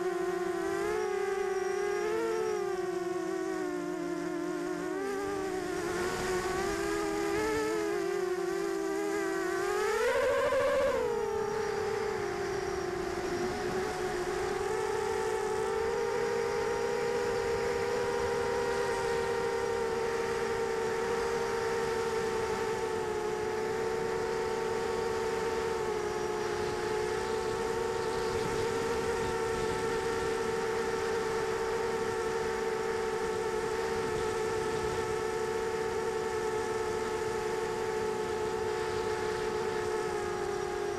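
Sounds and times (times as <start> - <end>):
quadcopter motors whining: 0.0 - 40.9.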